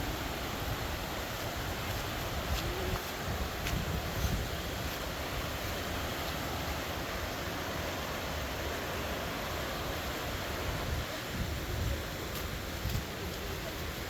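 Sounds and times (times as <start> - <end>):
river and waterfall rushing: 0.0 - 14.0.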